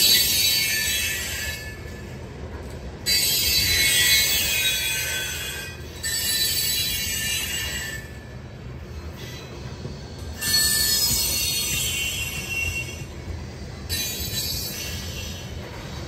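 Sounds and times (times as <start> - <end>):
rumble of train wheels: 0.0 - 16.0
train wheel squeal: 0.0 - 16.0.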